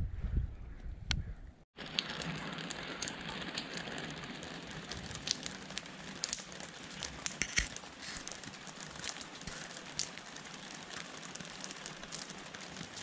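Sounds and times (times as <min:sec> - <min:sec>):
rain hissing on wooden deck: 0:01.8 - 0:13.0
raindrops ticking: 0:01.8 - 0:13.0.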